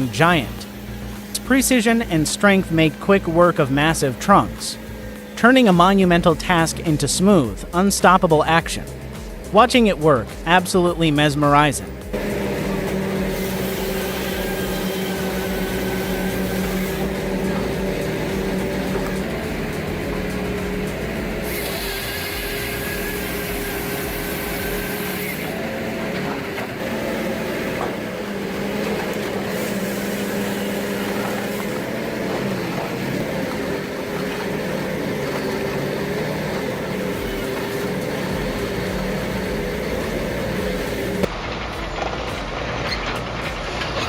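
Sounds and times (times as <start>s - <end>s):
tree-cutting machine engine running: 0.0s - 44.0s.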